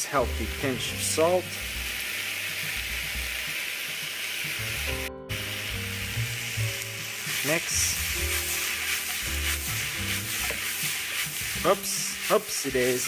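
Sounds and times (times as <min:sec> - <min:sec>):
vegetables frying in oil: 0:00.0 - 0:13.0.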